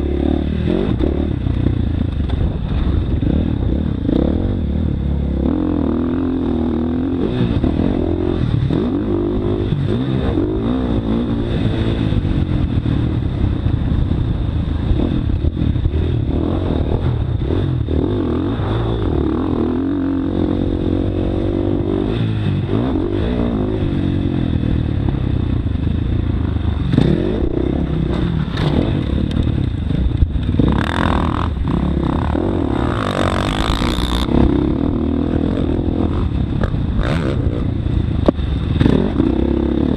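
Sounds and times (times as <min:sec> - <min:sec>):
motocross bike engine revving: 0:00.0 - 0:13.1, 0:14.9 - 0:39.9.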